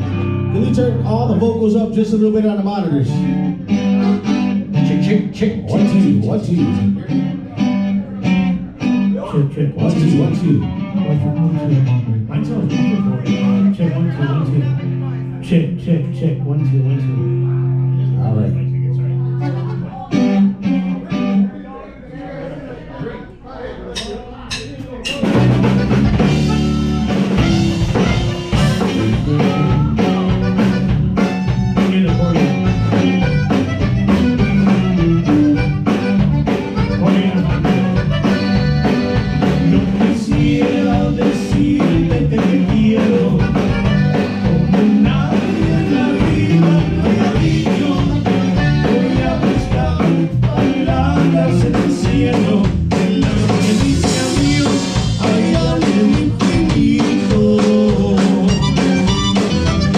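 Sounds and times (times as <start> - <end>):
live band playing: 0.0 - 21.5, 24.0 - 59.9.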